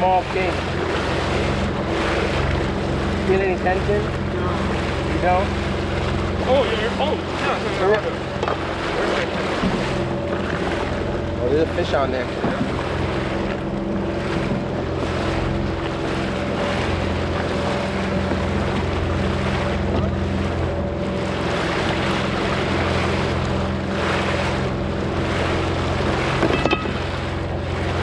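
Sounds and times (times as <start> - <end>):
jet ski engine running: 0.0 - 28.0
water rushing: 0.0 - 28.0.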